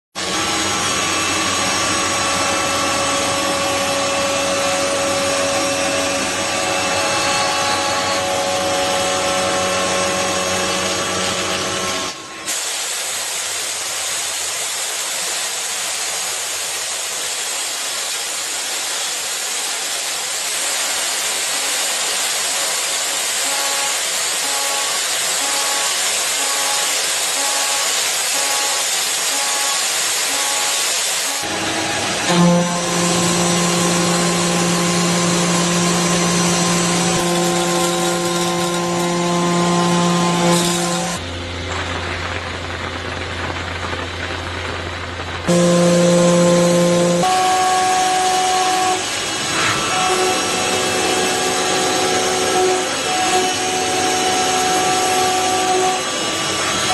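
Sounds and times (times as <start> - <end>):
machine tools whining: 0.2 - 12.6, 20.5 - 42.4, 45.5 - 56.9
hissing machining noise: 0.2 - 41.6, 45.5 - 56.9.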